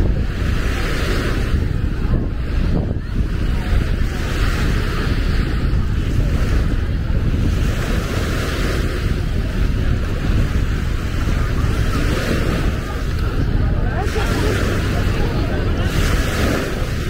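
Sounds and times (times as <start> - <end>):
heavy low rumble: 0.0 - 17.0
sea waves washing onto shore: 0.0 - 17.0
wind buffeting microphone: 0.0 - 17.0.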